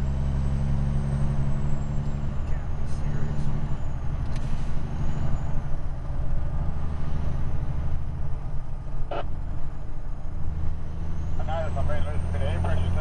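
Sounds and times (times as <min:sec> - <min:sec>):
road noise: 0:00.0 - 0:13.0
truck diesel engine running: 0:00.0 - 0:13.0.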